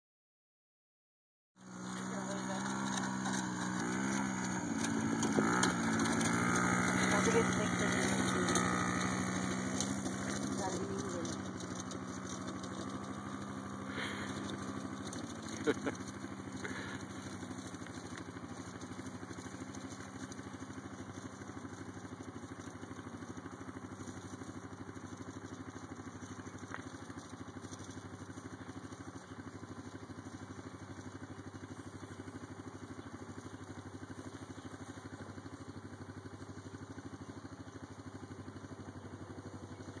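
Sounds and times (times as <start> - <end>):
small quad engine running: 1.6 - 40.0.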